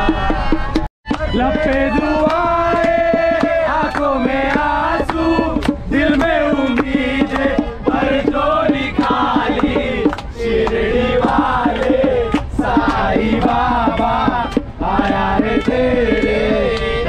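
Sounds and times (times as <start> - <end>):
sharp percussion hits: 0.0 - 16.6
voices singing devotional song: 0.0 - 17.0.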